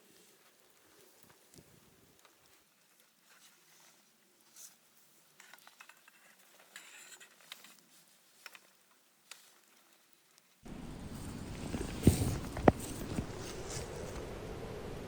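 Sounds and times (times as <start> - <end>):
soft rustles: 0.0 - 14.4.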